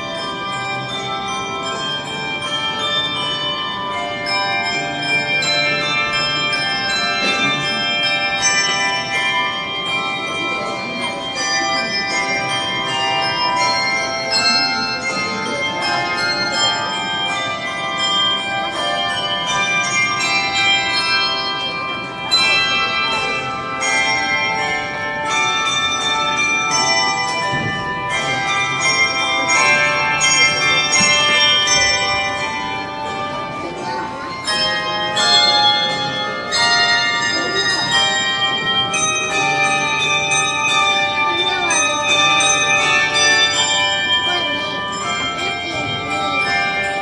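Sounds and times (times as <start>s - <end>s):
handbell choir playing: 0.0s - 47.0s.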